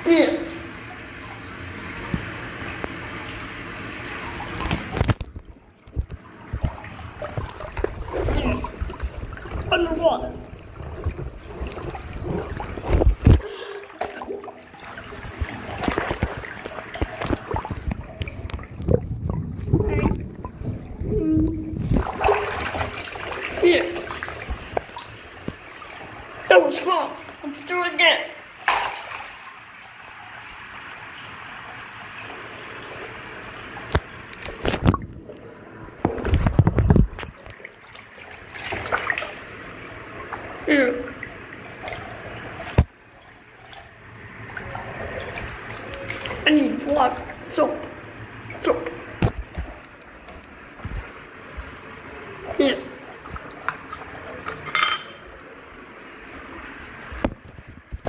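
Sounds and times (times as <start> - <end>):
bathtub water splashing: 0.0 - 58.0
water dripping: 0.7 - 27.6, 28.4 - 51.8, 52.4 - 55.8.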